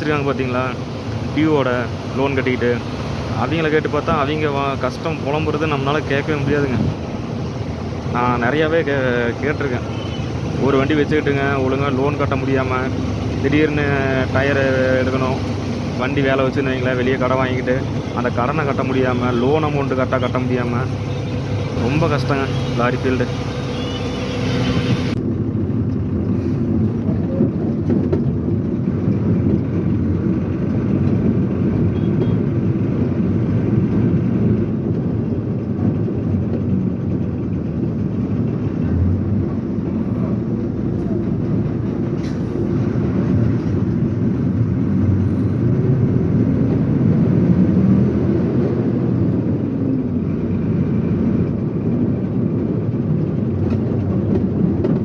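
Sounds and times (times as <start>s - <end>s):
lorry engine and road rumble: 0.0s - 55.0s.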